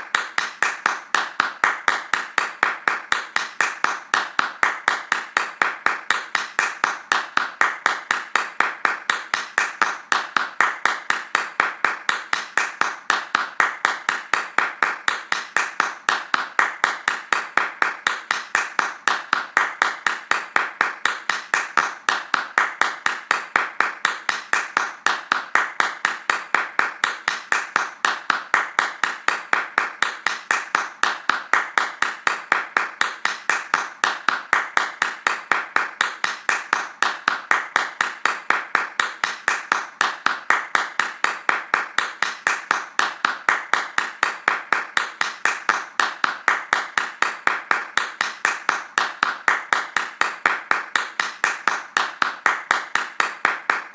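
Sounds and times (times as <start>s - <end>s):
fast hand clapping: 0.0s - 53.9s.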